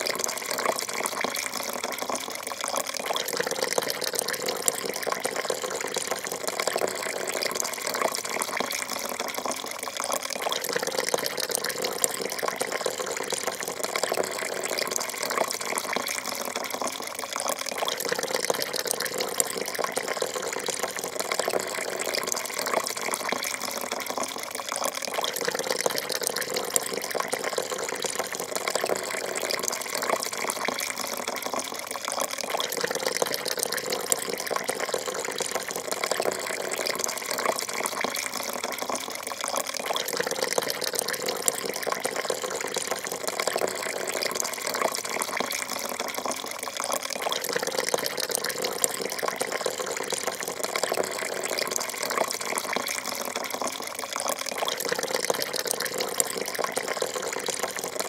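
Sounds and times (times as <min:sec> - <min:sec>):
coffee pouring into a cup: 0:00.0 - 0:58.0.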